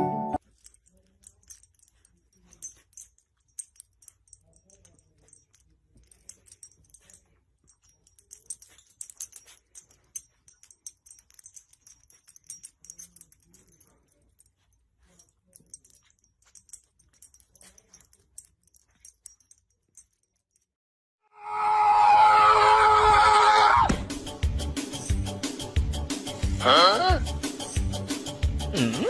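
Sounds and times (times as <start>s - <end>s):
light clicks and jingles: 0.4s - 20.8s, 24.2s - 26.6s, 27.2s - 28.7s.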